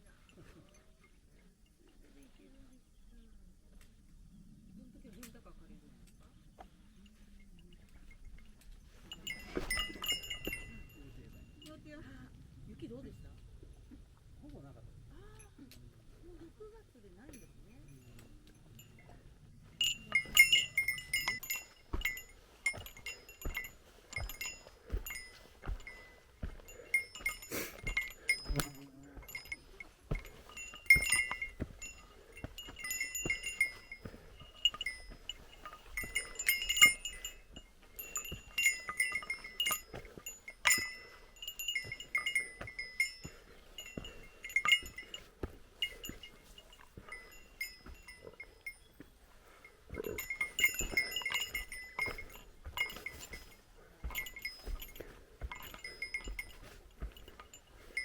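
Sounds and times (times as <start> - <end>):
small metal bell jingling: 4.4 - 58.0.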